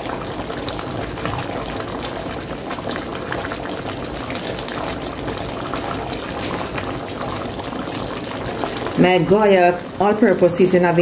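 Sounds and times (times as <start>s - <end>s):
stew bubbling in a pot: 0.0s - 11.0s.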